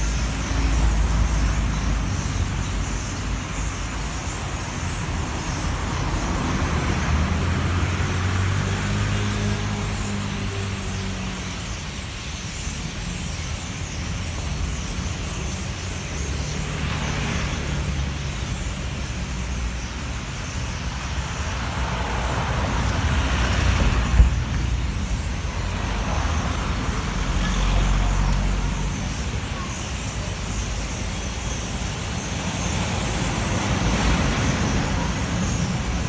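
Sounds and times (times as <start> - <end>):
vehicles passing: 0.0 - 36.0.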